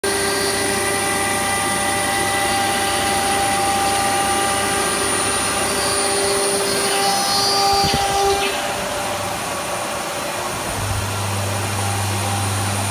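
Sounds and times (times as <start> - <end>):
cnc router running: 0.0 - 12.9.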